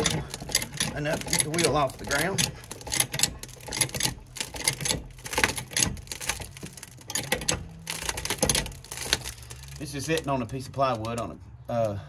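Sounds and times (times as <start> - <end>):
hydraulic jack pumping clicks: 0.0 - 10.3
plywood creaking and crumbling: 0.0 - 11.8.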